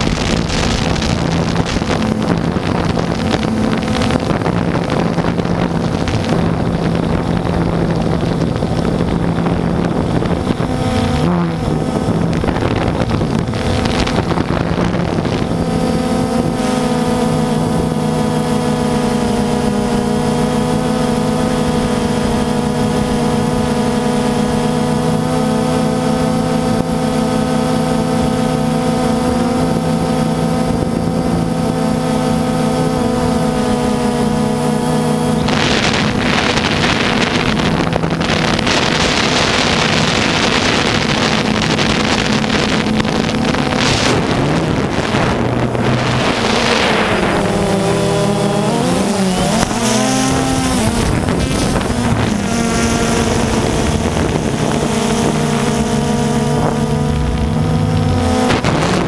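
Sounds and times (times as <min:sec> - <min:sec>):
drone motors humming: 0:00.0 - 0:59.0
wind rushing over microphone: 0:00.0 - 0:59.0.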